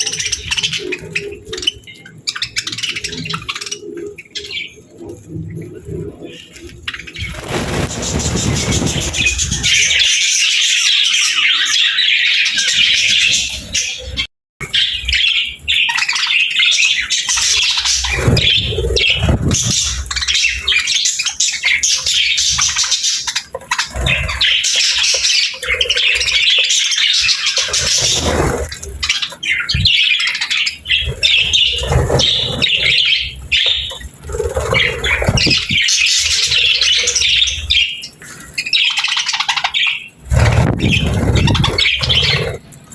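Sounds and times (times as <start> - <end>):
budgerigars chattering: 6.4 - 42.6.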